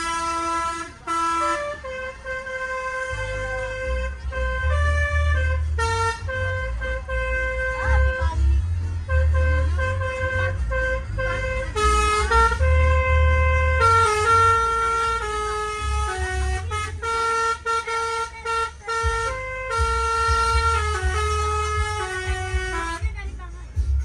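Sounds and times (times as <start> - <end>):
multi-tone musical air horn: 0.0 - 23.2
steady low rumble: 0.0 - 24.0.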